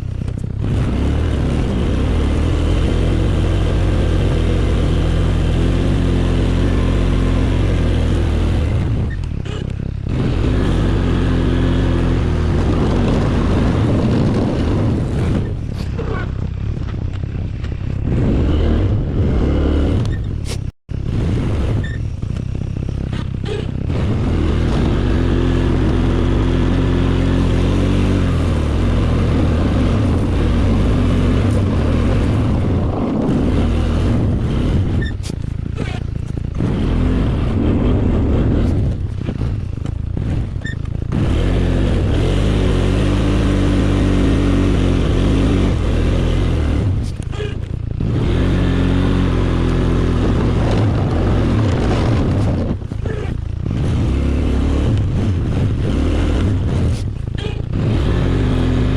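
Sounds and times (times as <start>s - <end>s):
engine revving: 0.0s - 58.9s.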